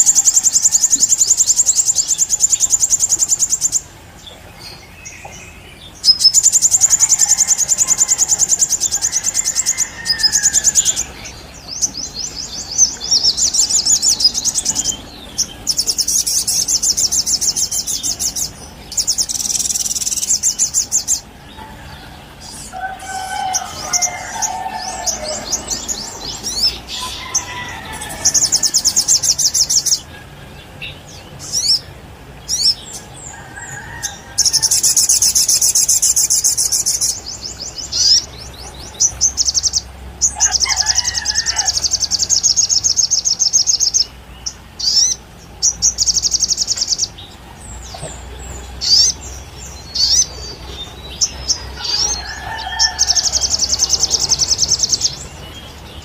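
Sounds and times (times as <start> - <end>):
songbird singing trills: 0.0 - 56.0.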